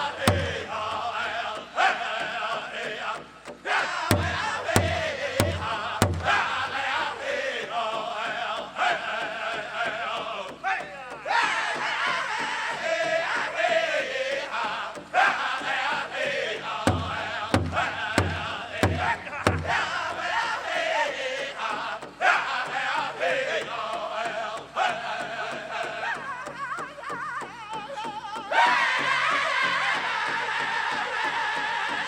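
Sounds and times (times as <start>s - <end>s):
loud big drum strokes: 0.0s - 26.4s
group singing high-pitched song: 0.0s - 32.0s.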